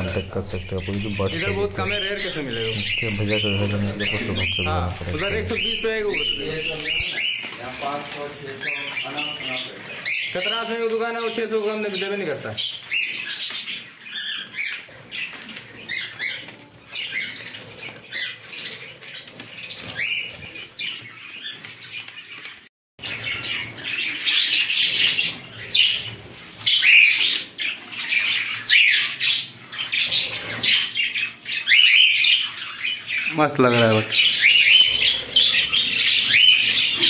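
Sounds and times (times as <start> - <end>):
budgerigars chattering and chirping: 0.0 - 22.4, 23.0 - 37.0.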